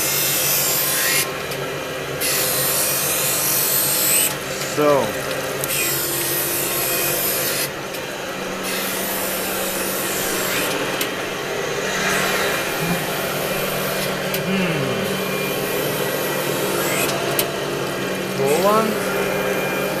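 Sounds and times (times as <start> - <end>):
surface grinder running: 2.2 - 20.0.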